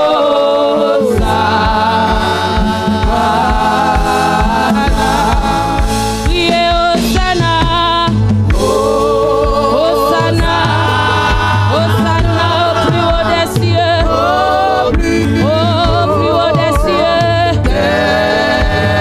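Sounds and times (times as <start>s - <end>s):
bass line and beat: 0.0s - 19.0s
women singing gospel: 0.0s - 19.0s.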